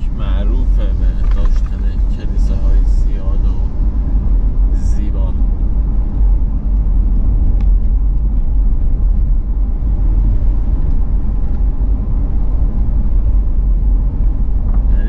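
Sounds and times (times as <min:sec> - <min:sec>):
car driving interior rumble: 0:00.0 - 0:15.0.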